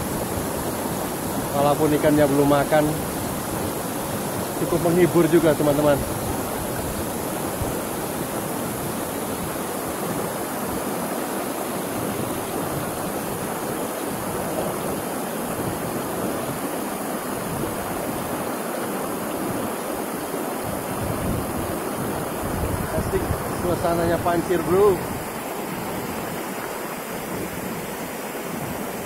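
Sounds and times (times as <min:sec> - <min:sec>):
river water rushing over rocks: 0:00.0 - 0:29.0.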